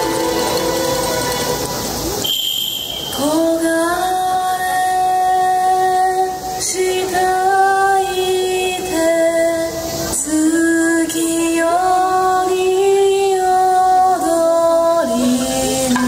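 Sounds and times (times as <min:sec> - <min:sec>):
high singing voice: 0:03.1 - 0:16.0.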